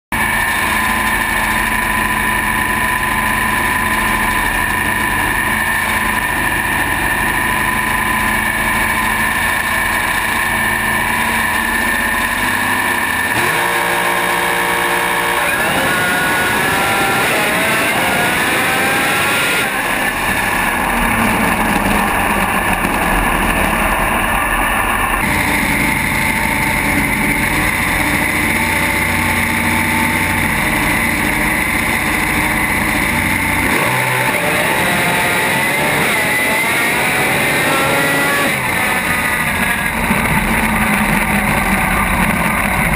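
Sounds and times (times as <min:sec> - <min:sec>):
racing engine revving: 0:00.2 - 0:42.9.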